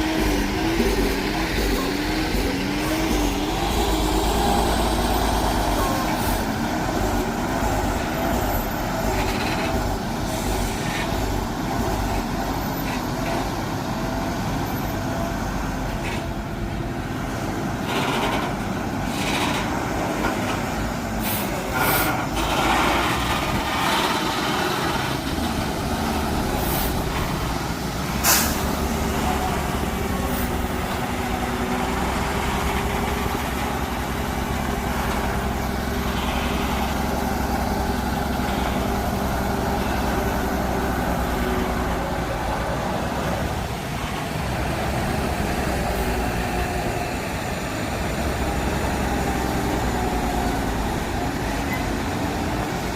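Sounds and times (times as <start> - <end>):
heavy truck engine running: 0.0 - 52.9.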